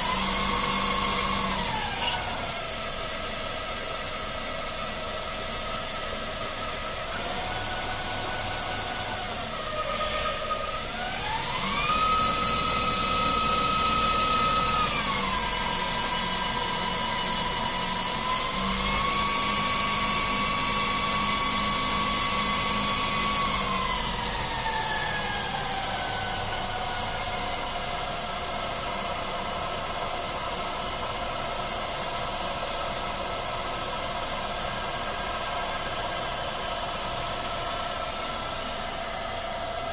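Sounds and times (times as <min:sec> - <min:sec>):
lathe motor whining: 0:00.0 - 0:39.9.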